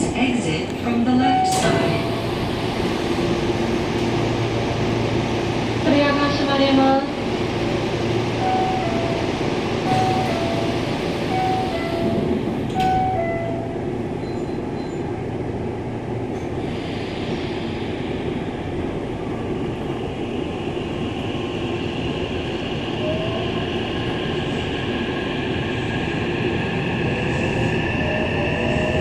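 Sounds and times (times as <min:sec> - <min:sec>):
train running noise: 0:00.0 - 0:29.0.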